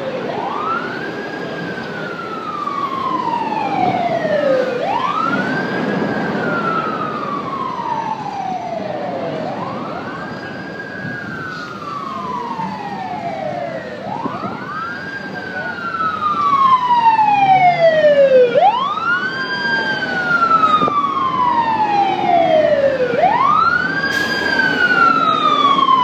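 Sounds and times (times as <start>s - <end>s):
emergency siren wailing: 0.0s - 26.0s
traffic noise: 0.0s - 26.0s.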